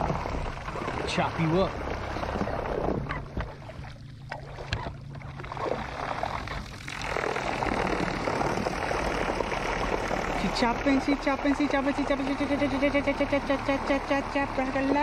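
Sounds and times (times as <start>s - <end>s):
boat motor low hum: 0.0s - 15.0s
boat propeller churning water: 0.0s - 15.0s.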